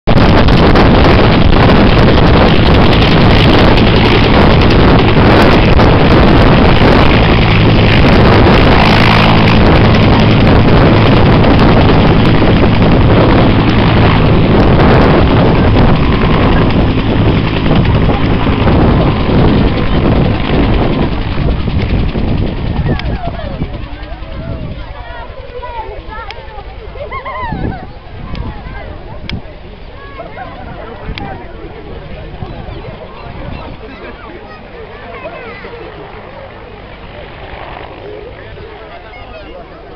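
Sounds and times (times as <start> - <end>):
wind buffeting microphone: 0.0 - 39.9
helicopter running: 0.1 - 39.9.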